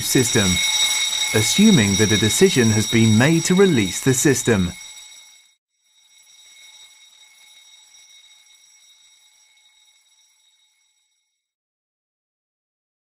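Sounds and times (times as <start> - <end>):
fire alarm high-pitched tone: 0.0 - 11.5.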